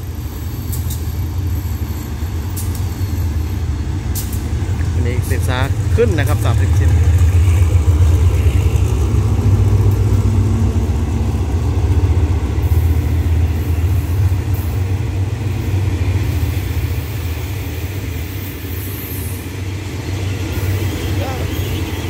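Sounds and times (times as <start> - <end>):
diesel locomotive engine drone: 0.0 - 22.0
train coaches rolling past: 0.0 - 22.0.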